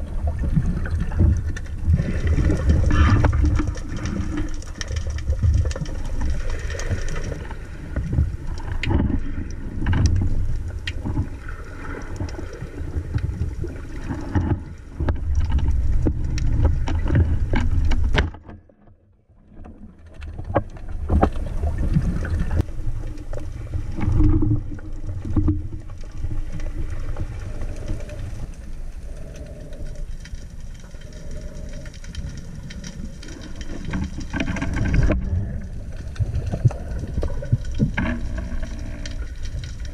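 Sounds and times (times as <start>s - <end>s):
low underwater rumble: 0.0s - 39.9s.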